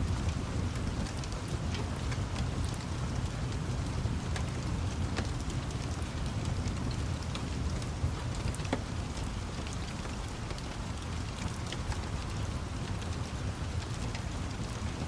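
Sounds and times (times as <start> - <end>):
constant low rumble: 0.0 - 15.0
steady rain: 0.0 - 15.0
wood fire crackling and popping: 0.0 - 15.0.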